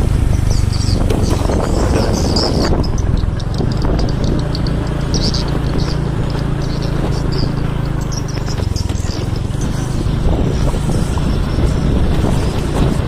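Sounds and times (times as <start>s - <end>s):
motorcycle engine running: 0.0s - 13.0s
tyres on gravel road: 0.0s - 13.0s.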